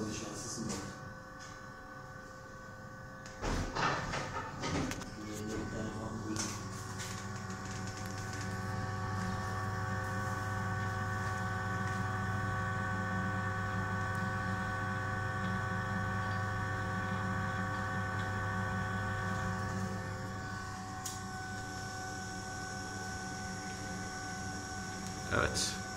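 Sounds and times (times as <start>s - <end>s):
boiler fan humming with whine: 0.0s - 25.9s.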